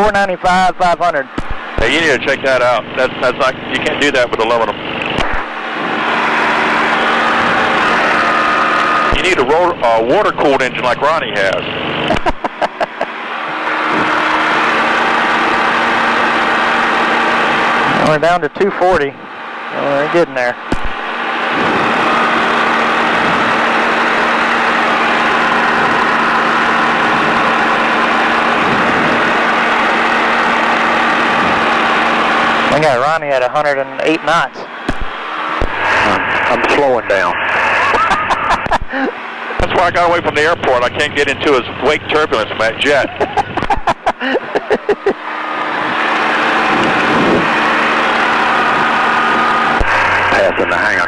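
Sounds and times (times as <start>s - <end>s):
light aircraft engine running: 0.0s - 51.0s.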